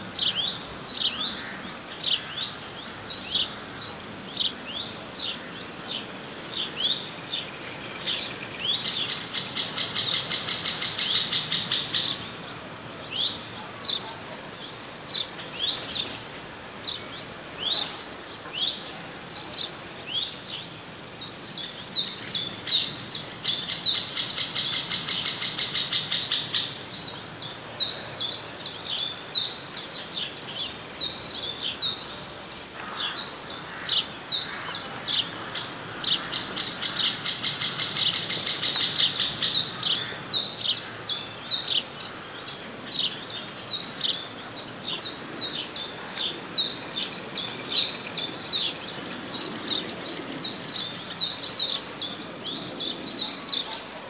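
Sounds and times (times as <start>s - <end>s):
faint background noise: 0.0s - 54.0s
small songbirds chirping: 0.1s - 53.9s.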